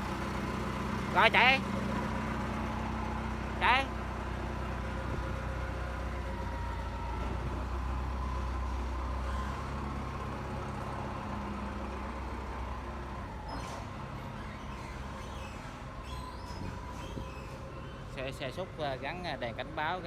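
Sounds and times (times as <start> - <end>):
heavy vehicle engine rumble: 0.0 - 20.0.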